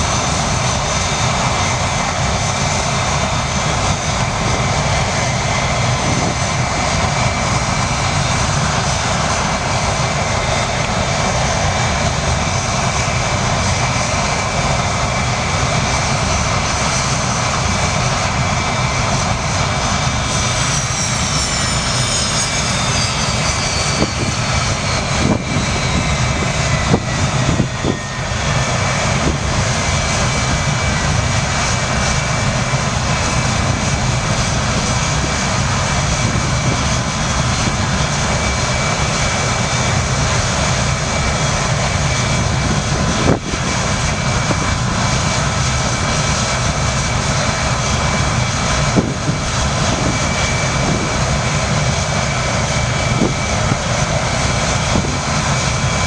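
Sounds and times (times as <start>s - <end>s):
jet engine roar with high whine: 0.0s - 56.0s.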